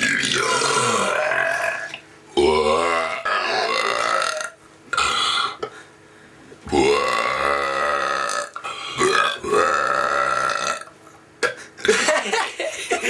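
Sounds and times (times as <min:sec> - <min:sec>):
person burping loudly: 0:00.0 - 0:05.8, 0:06.7 - 0:11.9.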